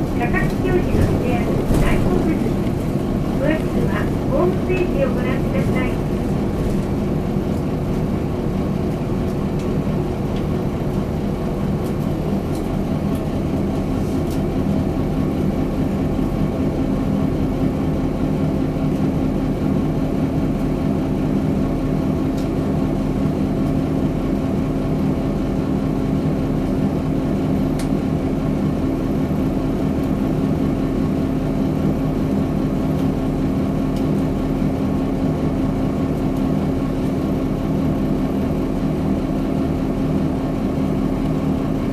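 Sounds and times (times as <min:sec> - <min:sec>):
diesel bus engine idling: 0:00.0 - 0:41.9.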